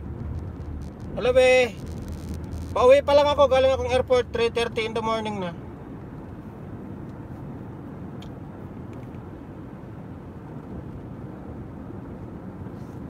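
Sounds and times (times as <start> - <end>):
car driving from inside cabin: 0.0 - 13.0.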